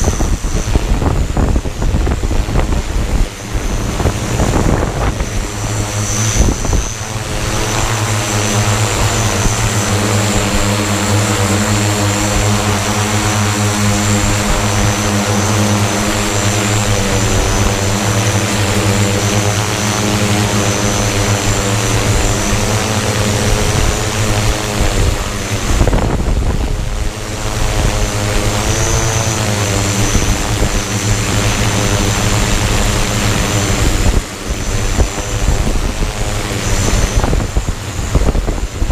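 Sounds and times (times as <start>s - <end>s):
drone motors whirring: 0.0s - 38.9s.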